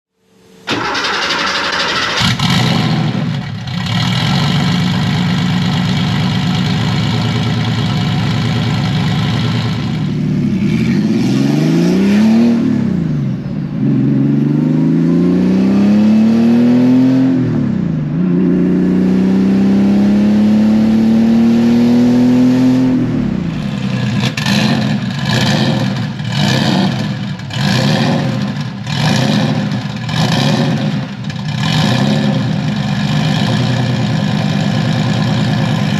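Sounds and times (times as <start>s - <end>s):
car engine idling and revving: 0.3s - 35.9s.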